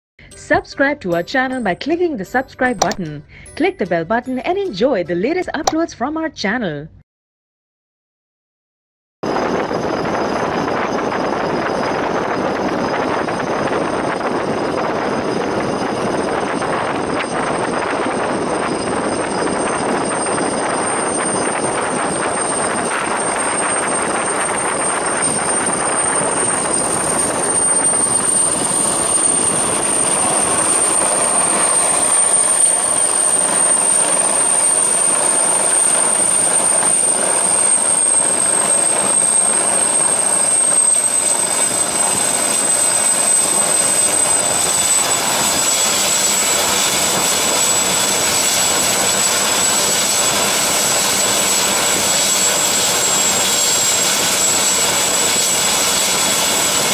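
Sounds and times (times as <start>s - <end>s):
helicopter rotor rush: 9.2s - 56.9s
helicopter turbine whine: 9.2s - 56.9s.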